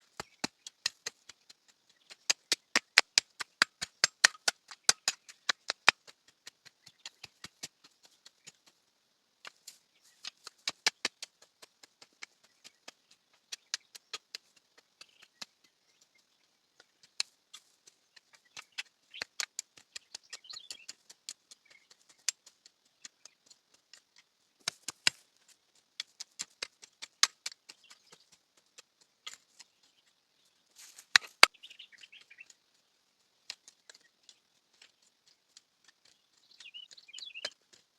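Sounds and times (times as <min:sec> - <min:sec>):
sharp clicks in bursts: 0:00.1 - 0:08.8, 0:09.4 - 0:30.2, 0:31.0 - 0:32.6, 0:33.4 - 0:37.9.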